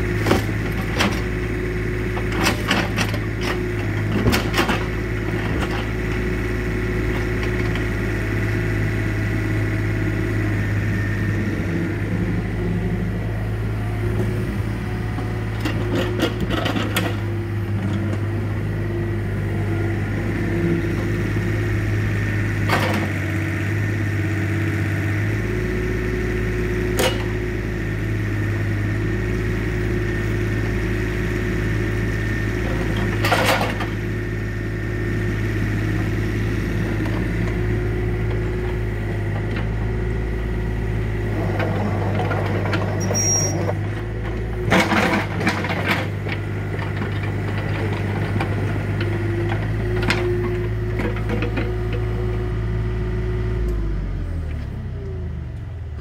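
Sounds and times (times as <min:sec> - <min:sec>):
excavator diesel engine whining: 0:00.0 - 0:56.0.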